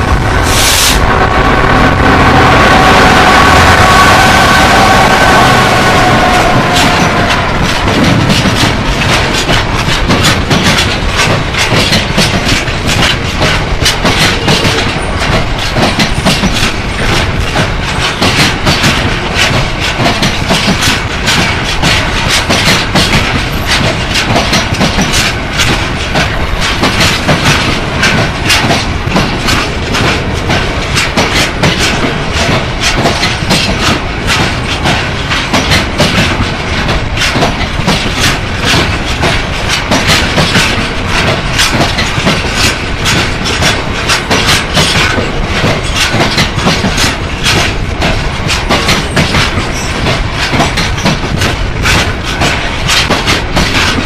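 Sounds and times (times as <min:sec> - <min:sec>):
train rumble: 0:00.0 - 0:54.0
train wheels clicking over rail joints: 0:04.2 - 0:54.0.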